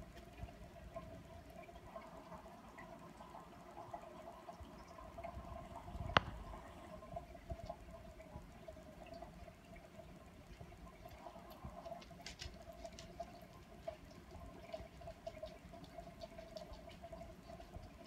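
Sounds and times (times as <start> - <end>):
aquarium filter water trickling: 0.0 - 18.0
water drips and ticks: 0.0 - 18.0.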